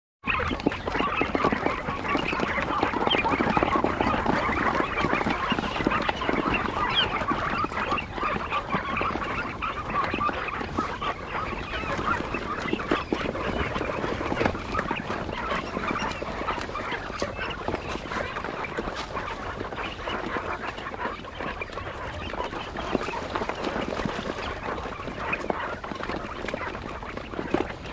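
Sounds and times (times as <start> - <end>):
quail flock chirping: 0.2 - 27.9.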